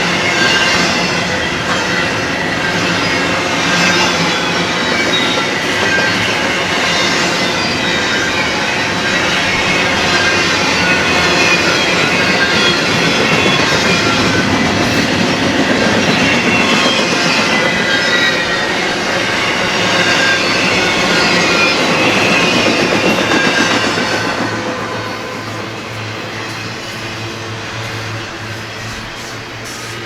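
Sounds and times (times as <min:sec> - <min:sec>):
freight train cars clattering: 0:00.0 - 0:30.0
train wheel squeals: 0:00.0 - 0:30.0.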